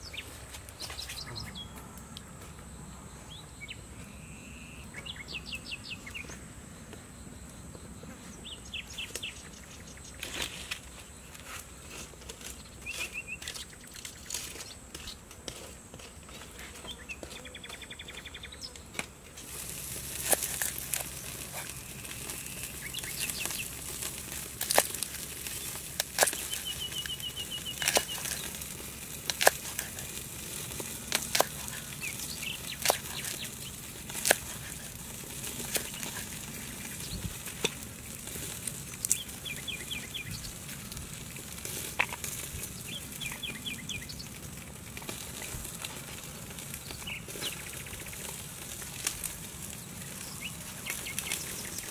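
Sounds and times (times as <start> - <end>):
birds chirping: 0.0 - 11.4, 12.4 - 15.3, 16.2 - 19.0, 19.6 - 51.9.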